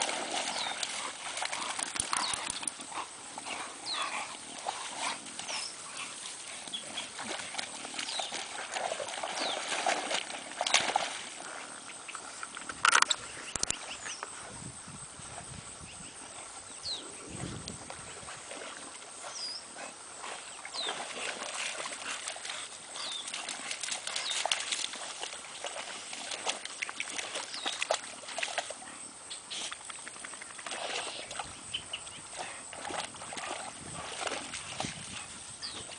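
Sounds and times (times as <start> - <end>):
dogs splashing through water: 0.0 - 13.2, 17.4 - 35.9.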